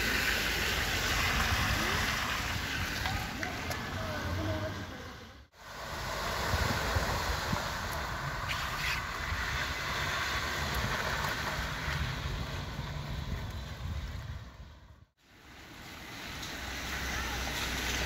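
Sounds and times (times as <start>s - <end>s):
floodwater rushing: 0.0s - 13.2s, 15.3s - 18.0s.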